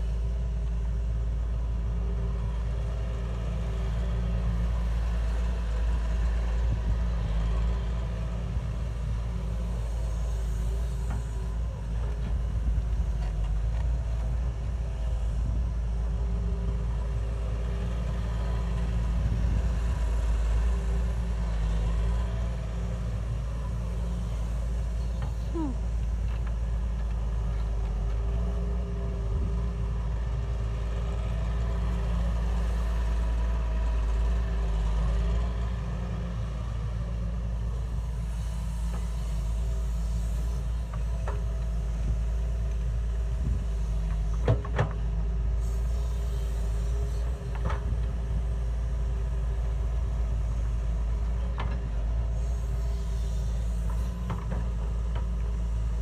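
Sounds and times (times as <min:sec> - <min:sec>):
heavy machinery engine rumbling: 0:00.0 - 0:56.0.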